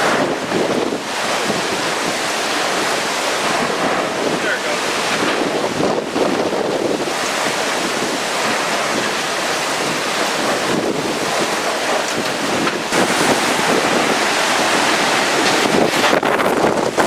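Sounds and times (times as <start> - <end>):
hurricane winds gusting: 0.0 - 17.0
wind buffeting microphone: 0.0 - 17.0.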